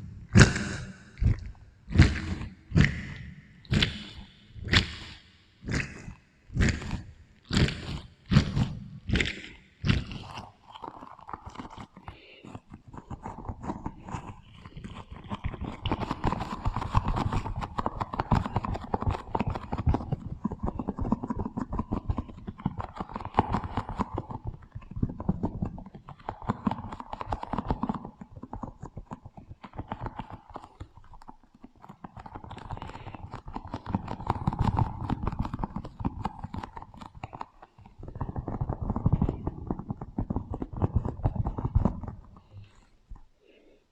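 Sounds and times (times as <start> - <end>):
crunching and wet clicking: 0.3 - 43.6
small crackling clicks: 0.6 - 43.6.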